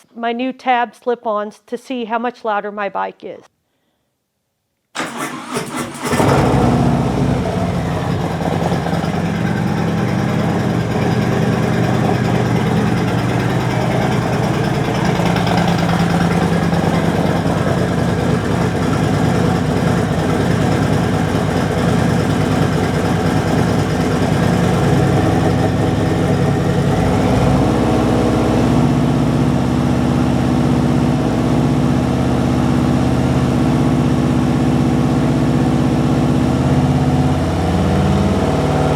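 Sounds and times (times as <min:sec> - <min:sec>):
motorcycle engine idling loudly: 0:06.0 - 0:38.9.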